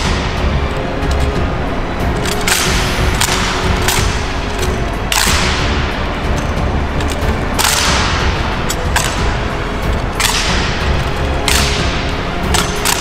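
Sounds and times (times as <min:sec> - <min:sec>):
hands slapping rifles: 0:02.1 - 0:13.0.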